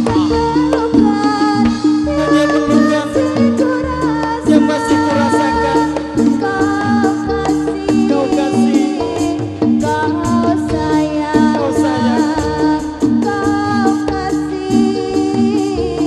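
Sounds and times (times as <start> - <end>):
drum strokes: 0.0 - 16.0
person singing: 0.0 - 16.0
pitched percussion notes: 0.0 - 16.0.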